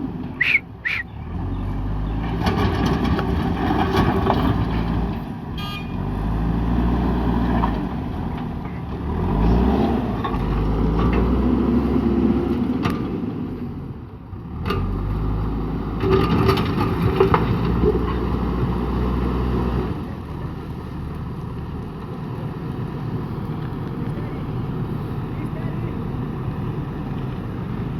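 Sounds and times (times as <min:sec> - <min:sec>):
diesel engine revving: 0:00.0 - 0:27.9.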